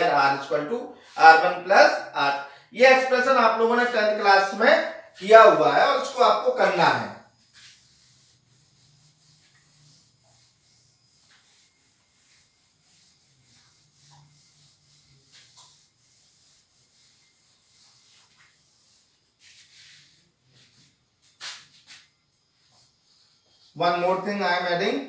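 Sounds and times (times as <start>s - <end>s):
cloth rubbing whiteboard: 2.9s - 25.0s.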